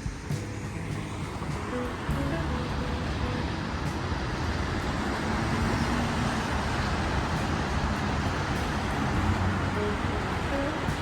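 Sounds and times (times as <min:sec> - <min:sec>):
city traffic passing cars: 0:00.0 - 0:11.0.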